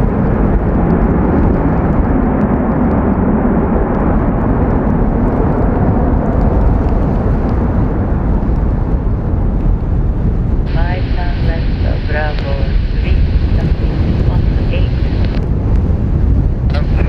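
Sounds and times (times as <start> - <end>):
jet engine rumble: 0.0 - 17.0
wind buffeting microphone: 0.0 - 17.0.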